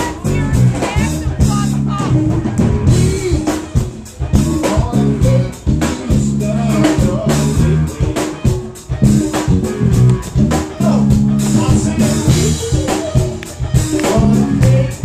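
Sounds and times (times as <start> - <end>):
congas: 0.0 - 15.0
drum kit: 0.0 - 15.0
electric guitar: 0.0 - 15.0
man singing: 0.0 - 15.0.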